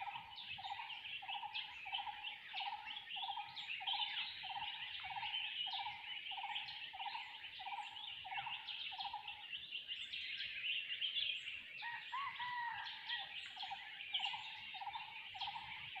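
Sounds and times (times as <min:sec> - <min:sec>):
dense high bird chirping: 0:00.0 - 0:09.8, 0:12.9 - 0:16.0.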